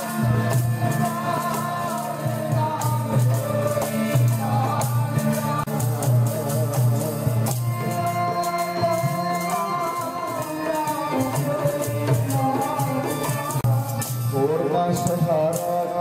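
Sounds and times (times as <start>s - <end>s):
harmonium: 0.0s - 16.0s
man singing: 0.0s - 16.0s.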